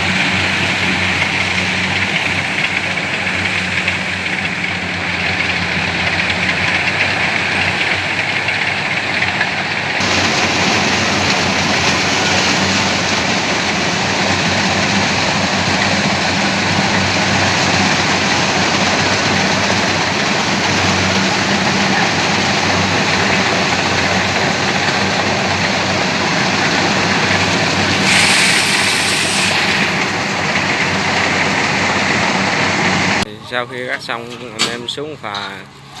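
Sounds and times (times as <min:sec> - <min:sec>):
hissing rush: 0:00.0 - 0:33.6
combine harvester diesel engine: 0:00.0 - 0:36.0.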